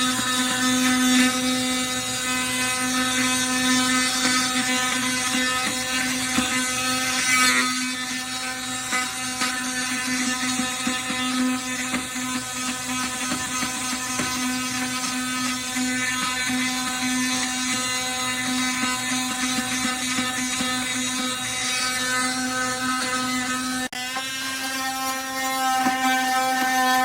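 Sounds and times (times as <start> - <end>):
oscillating multi-tool buzzing: 0.0 - 27.0.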